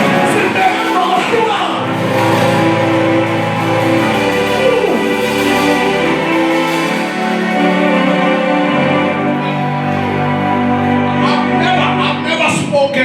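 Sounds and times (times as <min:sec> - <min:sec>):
music of sustained chords: 0:00.0 - 0:12.5.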